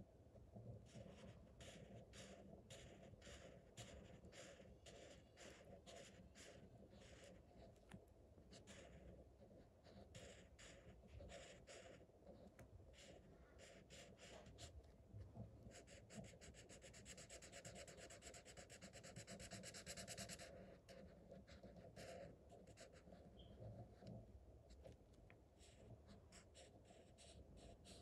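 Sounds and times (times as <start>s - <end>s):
marker scratching on paper: 0.8s - 14.9s, 15.6s - 25.0s, 25.6s - 28.0s.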